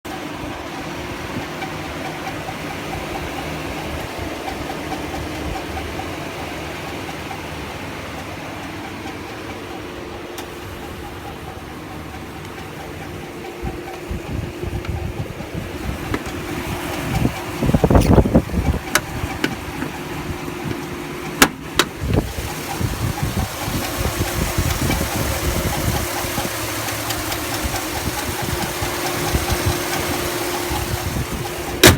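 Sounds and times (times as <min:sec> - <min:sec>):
engine idling with squeal: 0:00.1 - 0:31.9
sharp clicks and thumps: 0:01.3 - 0:31.9.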